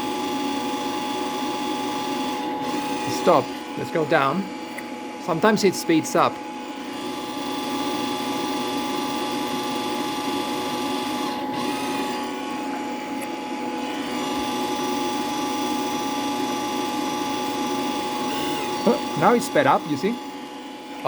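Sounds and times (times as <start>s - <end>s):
welder wire feed motor whirring: 0.0s - 21.0s.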